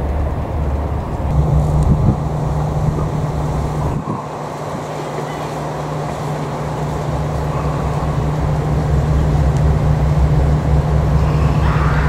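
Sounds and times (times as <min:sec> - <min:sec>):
diesel railcar engine drone: 0:00.0 - 0:12.0.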